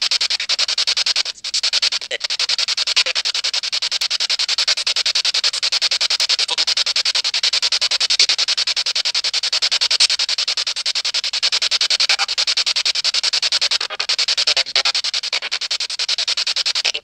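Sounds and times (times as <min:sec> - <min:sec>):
rapidly pulsing hiss: 0:00.0 - 0:17.0.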